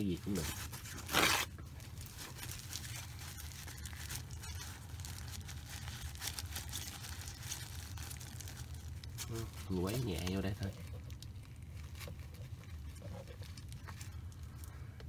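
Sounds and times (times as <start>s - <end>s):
paper towel and gloves rustling: 0.0s - 14.7s
steady low hum: 0.0s - 15.0s.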